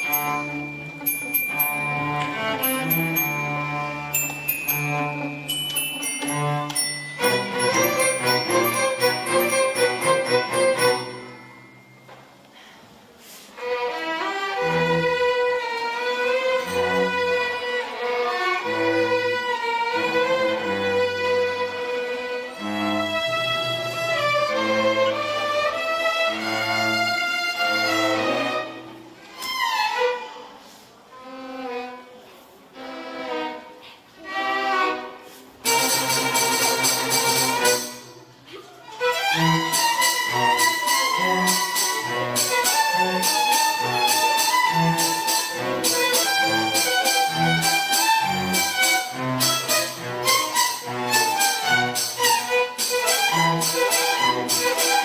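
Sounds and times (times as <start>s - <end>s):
orchestra playing: 0.0s - 11.9s, 13.6s - 29.4s, 32.7s - 38.4s, 39.0s - 55.0s
violins: 0.0s - 11.9s, 13.5s - 55.0s.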